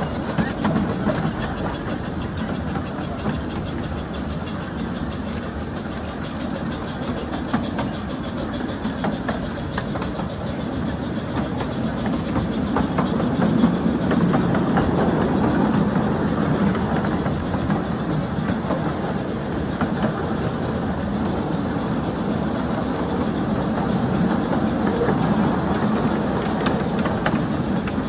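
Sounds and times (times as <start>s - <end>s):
steel wheels rumbling on rails: 0.0s - 28.0s.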